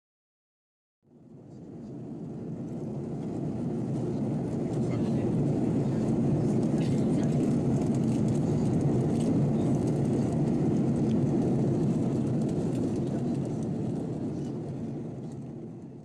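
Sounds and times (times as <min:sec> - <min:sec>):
airplane cabin engine rumble: 0:01.1 - 0:16.0.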